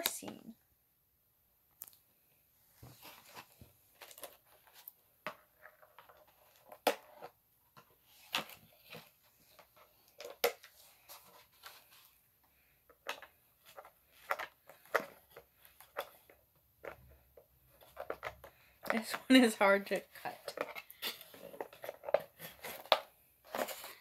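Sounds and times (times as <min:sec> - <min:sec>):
cardboard rustling: 0:02.8 - 0:12.2, 0:13.1 - 0:24.0.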